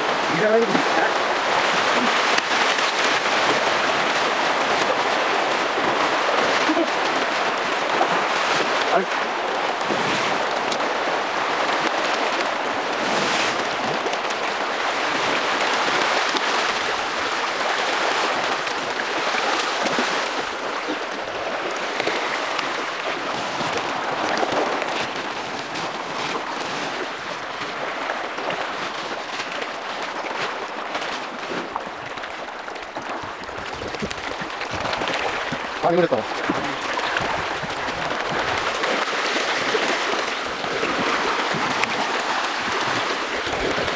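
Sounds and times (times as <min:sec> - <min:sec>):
fish splashing and slurping: 0:00.0 - 0:43.9.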